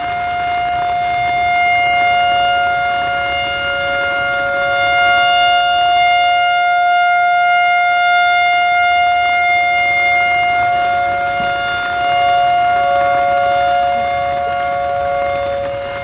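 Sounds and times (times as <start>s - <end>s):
electronic siren steady tone: 0.0s - 16.0s.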